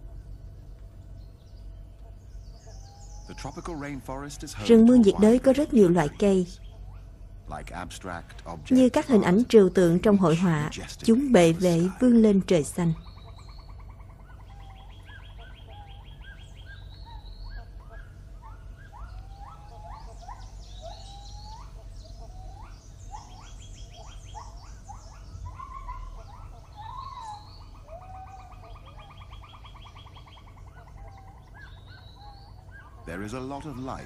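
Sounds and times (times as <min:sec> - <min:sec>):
birds whistling and trilling: 0:00.0 - 0:34.0.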